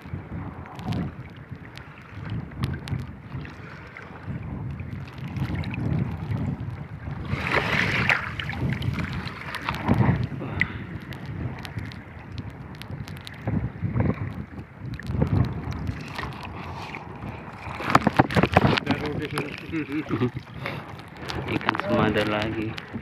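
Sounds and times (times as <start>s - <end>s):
choppy water: 0.0s - 23.0s
rushing water splash: 0.0s - 23.0s
wind buffeting microphone: 0.0s - 23.0s.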